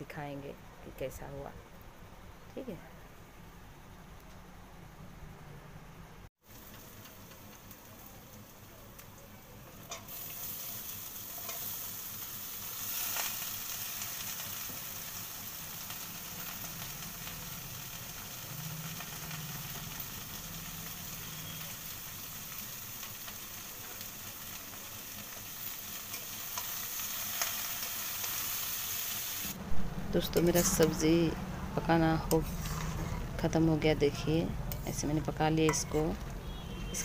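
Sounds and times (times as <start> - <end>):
banana flower sizzling in hot oil: 6.4 - 37.0.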